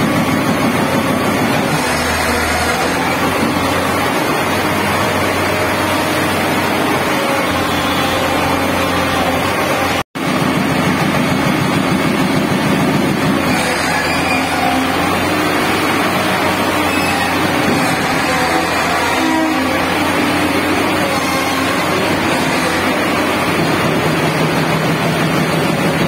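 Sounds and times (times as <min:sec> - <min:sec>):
diesel engine under load: 0:00.0 - 0:26.0
hydraulic rock breaker hammering: 0:00.0 - 0:26.0.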